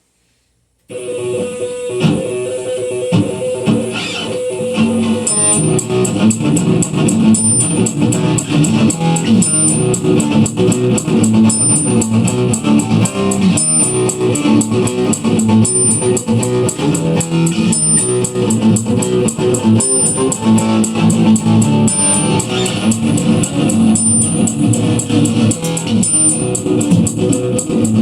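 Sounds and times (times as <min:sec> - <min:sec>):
electric guitar: 0:00.9 - 0:28.0
bass: 0:05.2 - 0:28.0
drums keeping a steady beat: 0:05.2 - 0:28.0.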